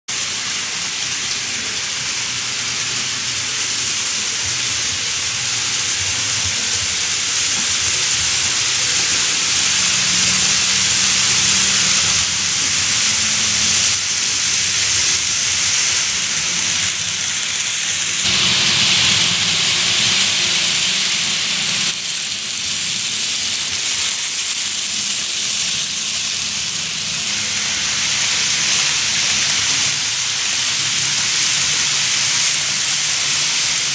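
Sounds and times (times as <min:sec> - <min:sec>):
model train wheels rolling hiss: 0:00.1 - 0:33.9.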